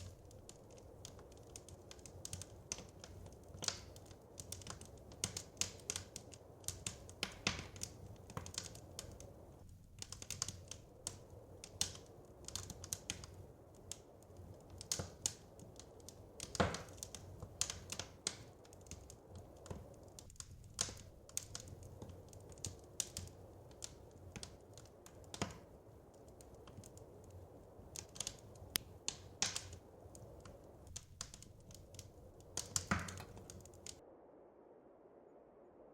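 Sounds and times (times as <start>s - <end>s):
wood fire pops and snaps: 0.0s - 34.0s
low fire rumble: 0.0s - 34.2s.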